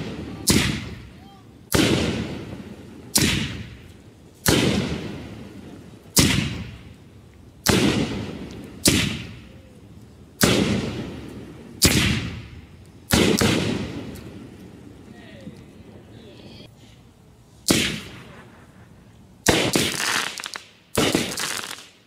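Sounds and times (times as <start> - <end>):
firework shells booming: 0.0 - 7.0, 7.6 - 9.5, 10.4 - 15.0, 17.6 - 22.0.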